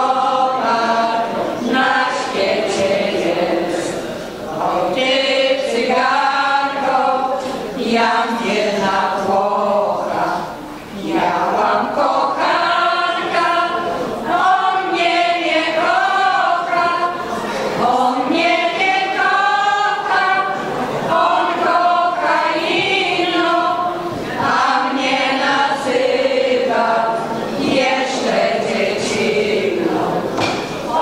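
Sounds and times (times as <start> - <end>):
women's choir singing unaccompanied: 0.0 - 31.0.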